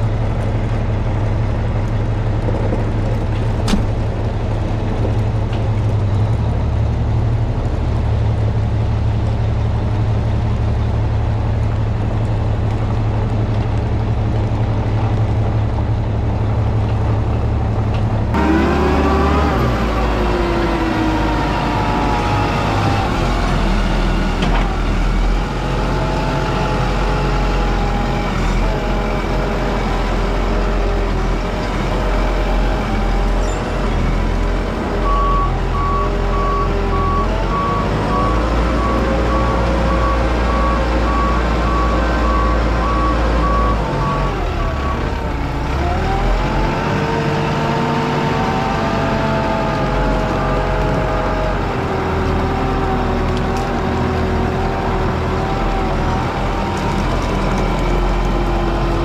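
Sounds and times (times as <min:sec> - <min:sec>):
engine and drivetrain whine: 0:00.0 - 0:59.0.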